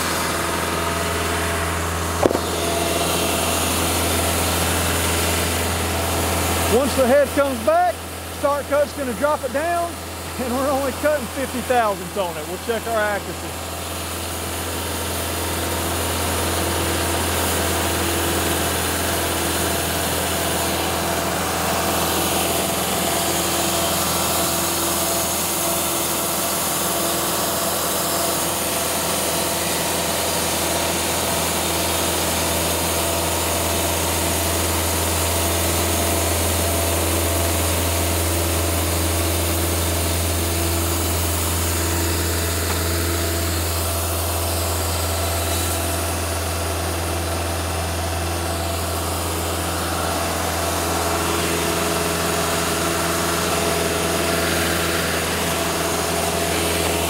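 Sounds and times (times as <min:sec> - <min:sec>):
sawmill engine and blade drone: 0:00.0 - 0:57.0.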